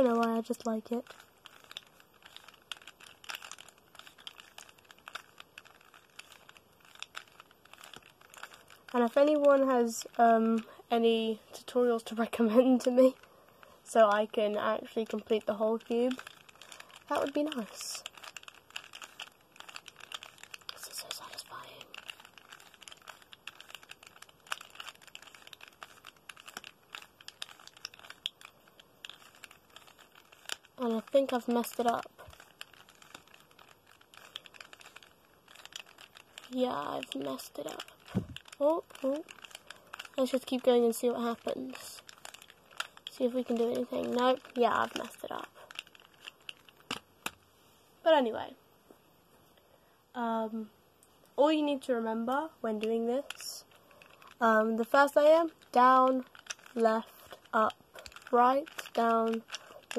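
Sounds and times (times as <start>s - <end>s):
puzzle cube plastic clicks: 0.0s - 47.4s, 51.0s - 59.9s.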